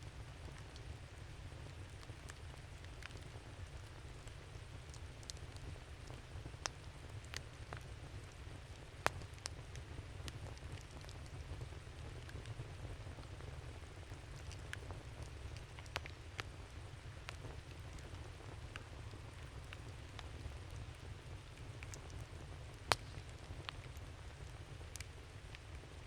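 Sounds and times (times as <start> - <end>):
campfire crackling: 0.1 - 26.0.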